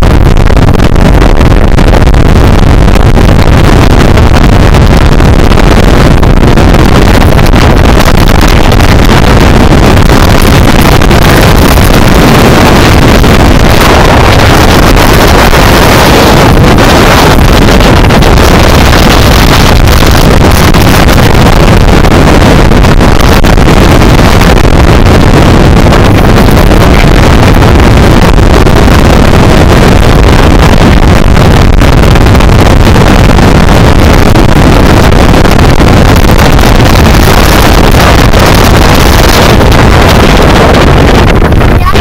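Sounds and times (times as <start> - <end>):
wind gusts blasting microphone: 0.0 - 42.0.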